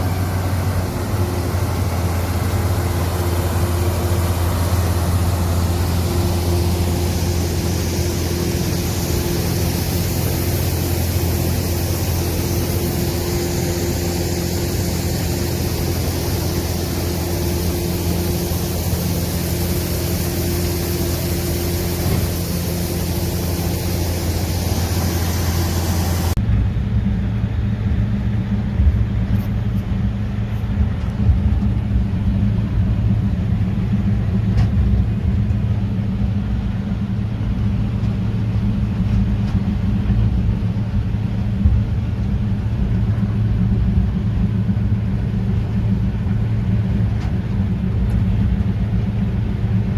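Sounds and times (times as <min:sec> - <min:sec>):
combine harvester engine hum: 0:00.0 - 0:49.9.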